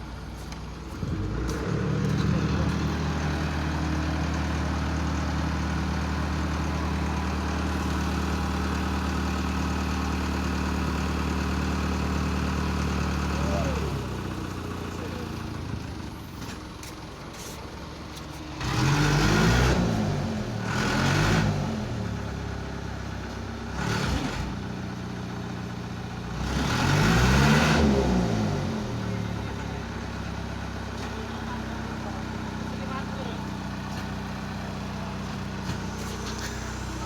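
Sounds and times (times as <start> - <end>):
heavy truck engine revving: 0.8 - 16.6, 18.5 - 37.0.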